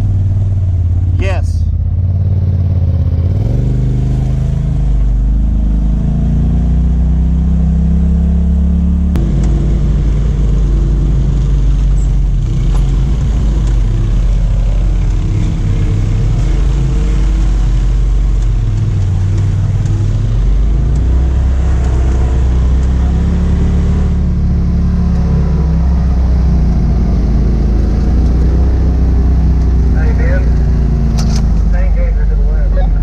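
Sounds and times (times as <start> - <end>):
utility vehicle engine running: 0.0 - 33.0.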